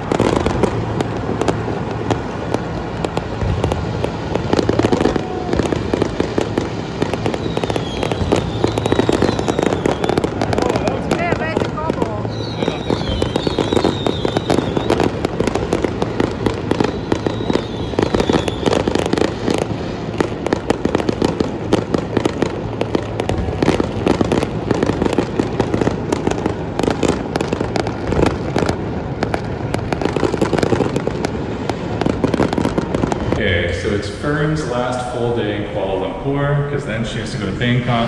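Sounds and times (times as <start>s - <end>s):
firecracker bangs: 0.0s - 35.2s
fireworks crackling and popping: 0.0s - 35.2s.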